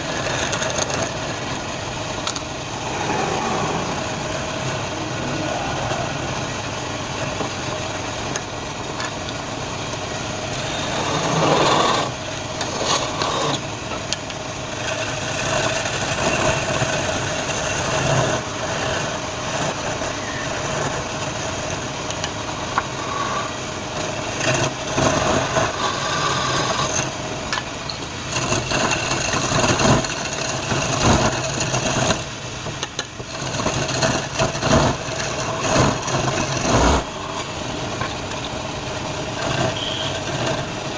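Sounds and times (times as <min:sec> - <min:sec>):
lathe motor hum: 0:00.0 - 0:40.9
tool scraping spinning wood: 0:00.0 - 0:40.9.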